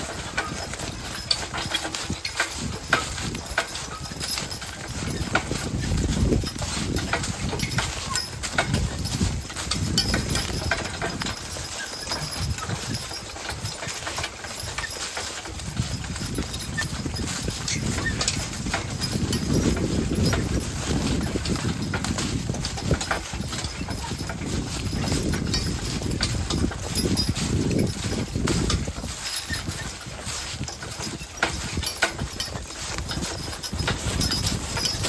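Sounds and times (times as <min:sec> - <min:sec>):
horse hooves clopping: 0:00.0 - 0:35.0.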